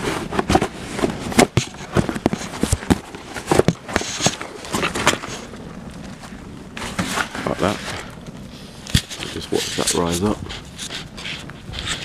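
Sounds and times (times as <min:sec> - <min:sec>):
cardboard fire crackling: 0:00.0 - 0:12.0.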